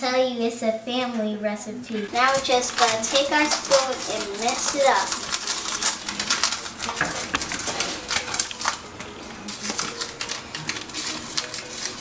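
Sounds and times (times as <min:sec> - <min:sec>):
metal spoon stirring in a bowl: 0:01.9 - 0:12.0.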